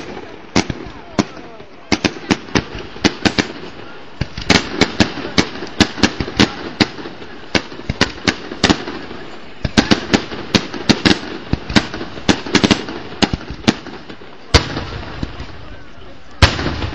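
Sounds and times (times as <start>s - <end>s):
fireworks banging: 0.0s - 16.9s.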